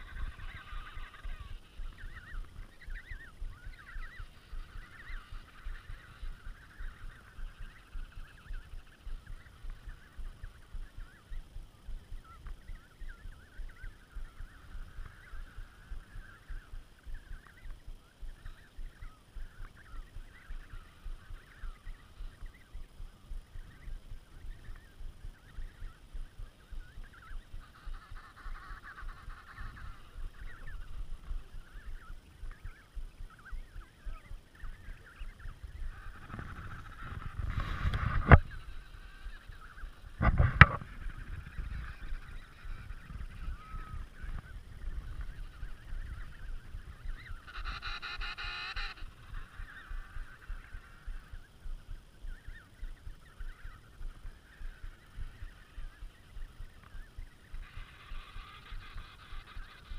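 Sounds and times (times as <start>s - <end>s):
penguins chirping: 0.0s - 51.5s, 52.2s - 59.9s.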